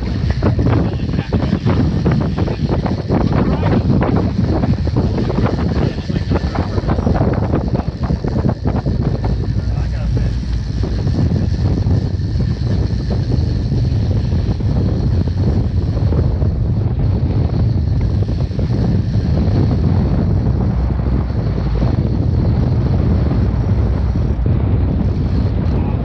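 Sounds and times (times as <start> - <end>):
outboard motor running: 0.0 - 26.0
wind rumble on microphone: 0.0 - 26.0.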